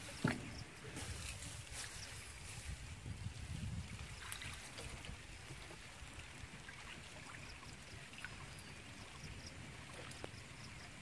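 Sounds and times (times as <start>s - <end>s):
rustling in wet grass: 0.0s - 11.0s
small water sounds: 0.0s - 11.0s
wind rumble on microphone: 0.0s - 11.0s.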